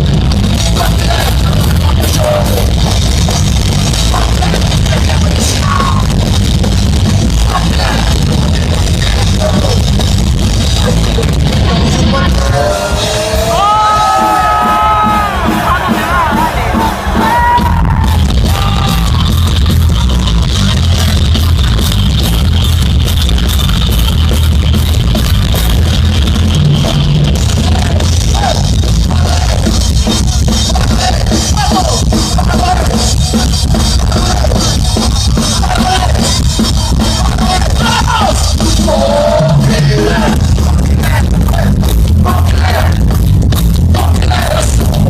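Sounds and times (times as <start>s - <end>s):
heavy metal band playing live: 0.0s - 45.0s.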